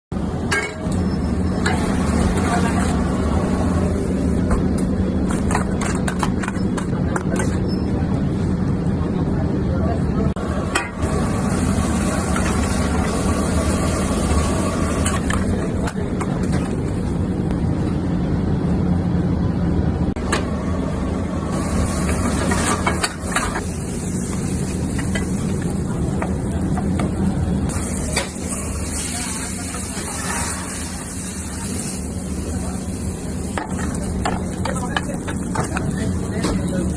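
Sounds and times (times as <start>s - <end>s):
low mechanical hum and rumble: 0.1s - 36.9s.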